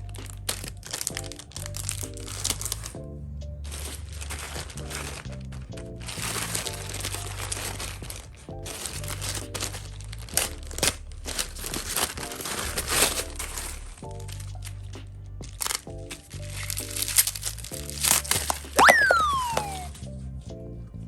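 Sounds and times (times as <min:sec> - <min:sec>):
packaging crinkling and rustling: 0:00.0 - 0:03.0, 0:03.7 - 0:20.0
sharp crackles: 0:00.0 - 0:03.0, 0:03.6 - 0:20.0
background music: 0:00.0 - 0:21.0.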